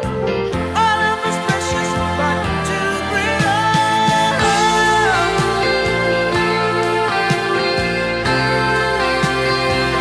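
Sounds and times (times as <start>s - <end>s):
symphonic rock from a vinyl record: 0.0s - 10.0s.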